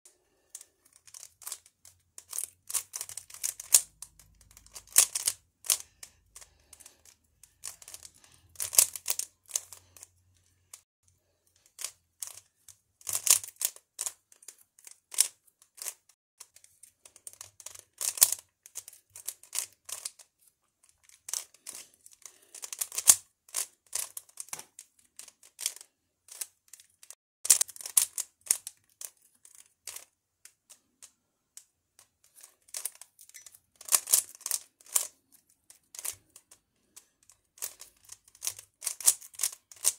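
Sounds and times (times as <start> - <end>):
puzzle cube clicking and scraping: 0.2 - 10.8, 11.5 - 39.9.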